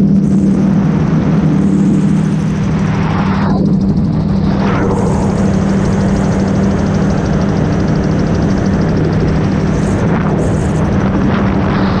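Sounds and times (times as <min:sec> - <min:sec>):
aircraft engine and propeller drone: 0:00.0 - 0:12.0
rush of wind noise: 0:00.0 - 0:12.0.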